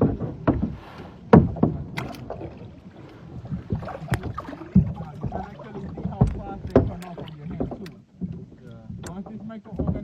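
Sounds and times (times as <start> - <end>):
light wash of water: 0.0 - 9.4
water splashing around kayaks: 0.0 - 10.0.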